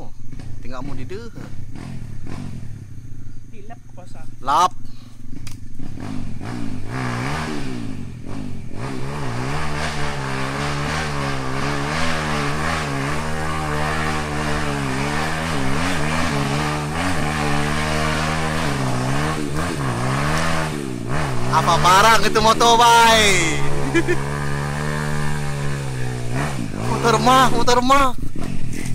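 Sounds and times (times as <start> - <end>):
vehicle engine revving: 0.0 - 3.4, 4.3 - 28.9.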